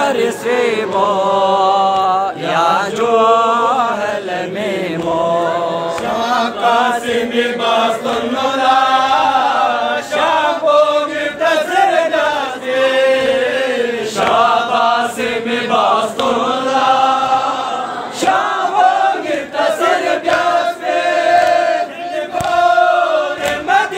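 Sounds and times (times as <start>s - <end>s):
men chanting a lament: 0.0s - 23.9s
singer leading at a microphone: 0.0s - 23.9s.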